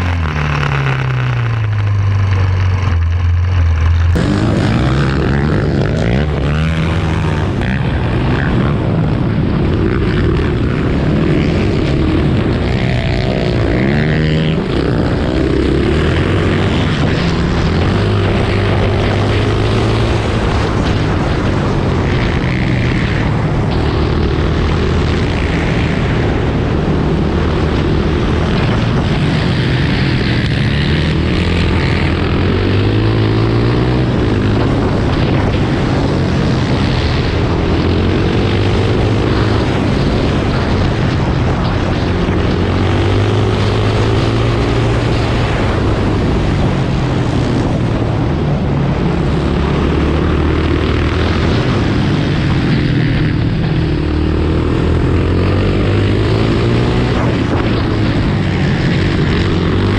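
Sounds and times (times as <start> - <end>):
quad engine revving: 0.0 - 47.9, 49.0 - 59.9.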